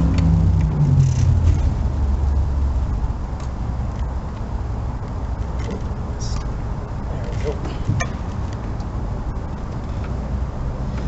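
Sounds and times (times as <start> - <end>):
motor vehicle low rumble: 0.0 - 11.0.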